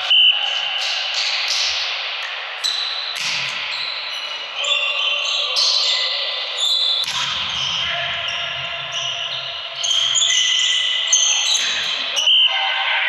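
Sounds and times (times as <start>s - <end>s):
hubbub of voices in echoing hall: 0.0s - 13.0s.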